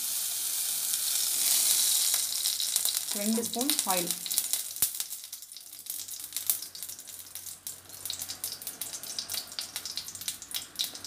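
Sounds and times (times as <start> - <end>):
butter sizzling in oil: 0.0 - 11.0.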